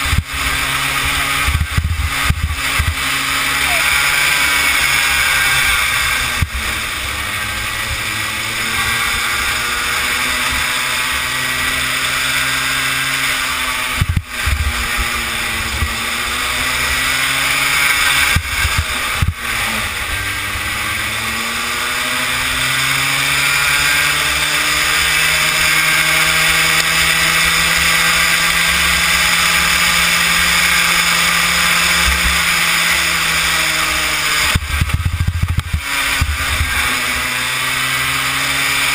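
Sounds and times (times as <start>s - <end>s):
small kart engine running hard: 0.0s - 38.9s.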